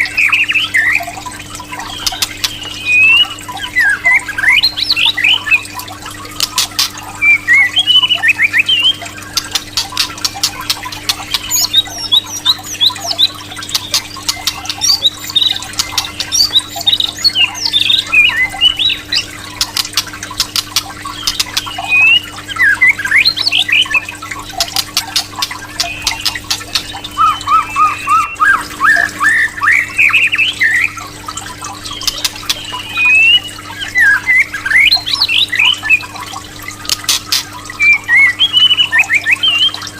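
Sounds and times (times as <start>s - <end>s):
bird singing whistles and clicks: 0.0s - 31.1s, 31.8s - 36.3s, 36.9s - 39.9s.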